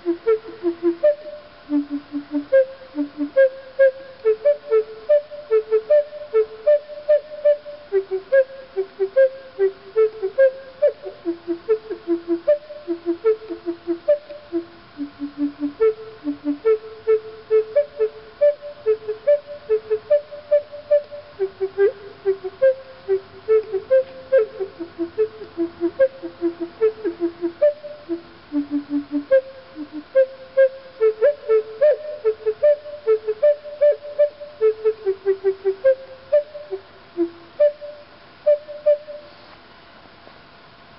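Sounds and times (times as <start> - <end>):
flute playing short notes: 0.0 - 39.4.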